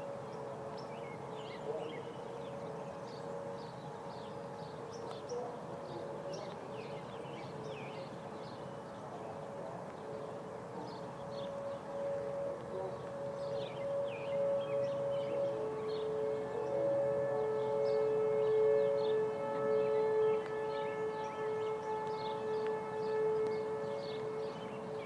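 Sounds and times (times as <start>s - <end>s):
emergency warning siren: 0.0s - 25.0s.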